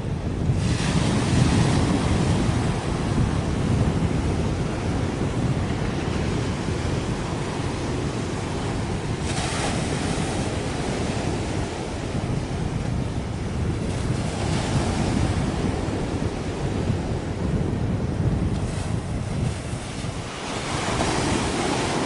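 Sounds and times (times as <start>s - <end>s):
wind rumbling on microphone: 0.0s - 22.0s
sea waves washing: 0.2s - 22.0s.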